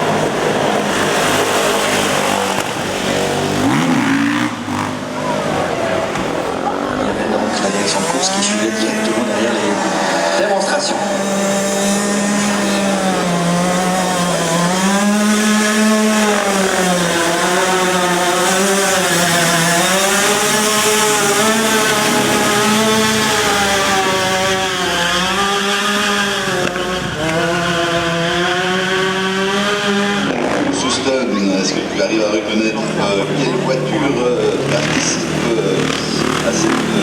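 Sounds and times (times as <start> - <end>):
racing engine at high revs: 0.0 - 37.0.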